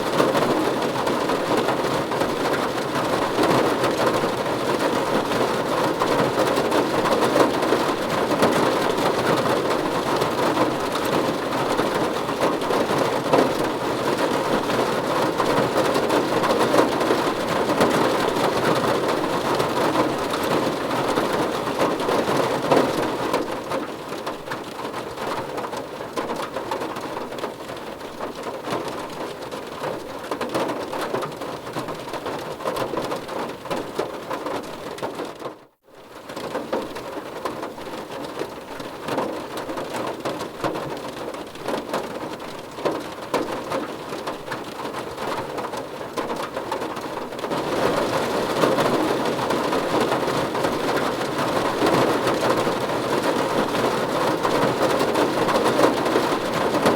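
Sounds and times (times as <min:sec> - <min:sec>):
rain on a car roof: 0:00.0 - 0:56.9.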